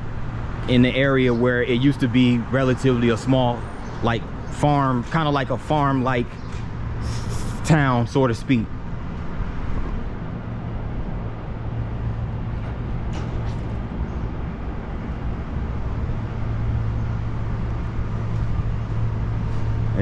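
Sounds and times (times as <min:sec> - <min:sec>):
city street traffic: 0:00.0 - 0:20.0
motor vehicle engine hum: 0:00.0 - 0:20.0.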